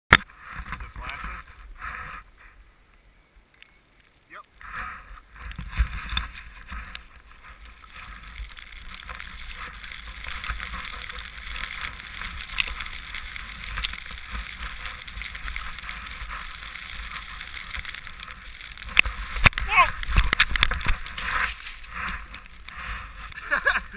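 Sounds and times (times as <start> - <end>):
skis hissing through powder snow: 0.3 - 2.8, 4.3 - 23.9
wind rumble on microphone: 4.6 - 23.9.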